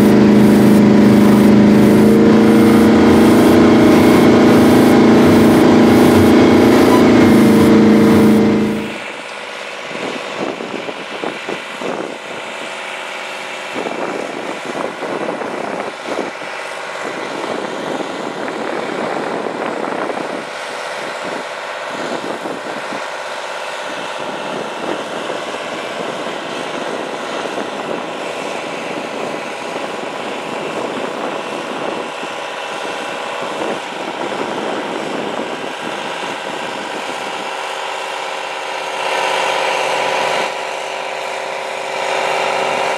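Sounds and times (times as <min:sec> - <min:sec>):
diesel tractor engine drone: 0:00.0 - 0:42.9.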